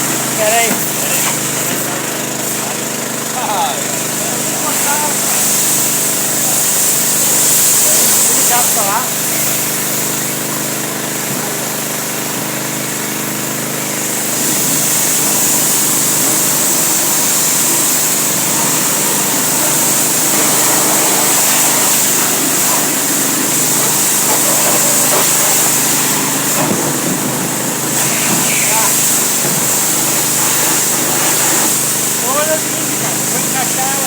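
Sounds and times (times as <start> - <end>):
strong hiss: 0.0 - 2.8, 3.4 - 10.3, 14.1 - 34.0
motor running: 0.0 - 34.0.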